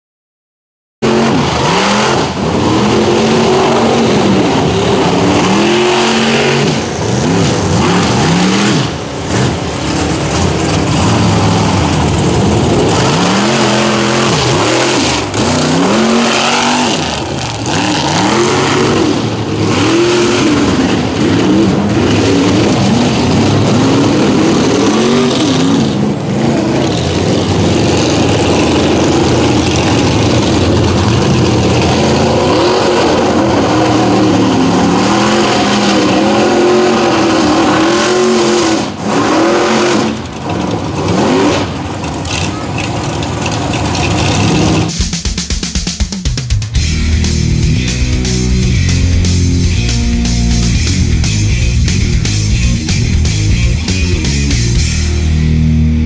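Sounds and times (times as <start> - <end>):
truck engine revving: 1.0 - 45.2, 46.2 - 56.0.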